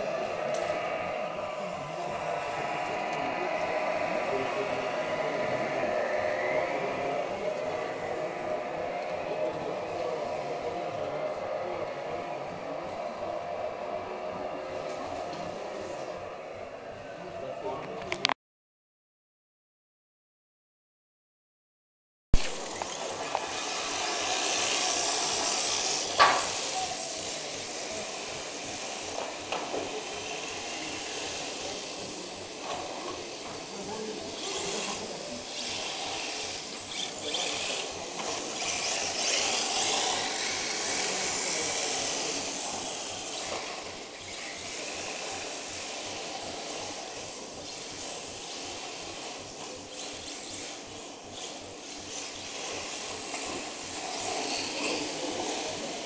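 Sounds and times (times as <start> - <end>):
electric motors whining: 0.0 - 18.3, 22.4 - 56.0.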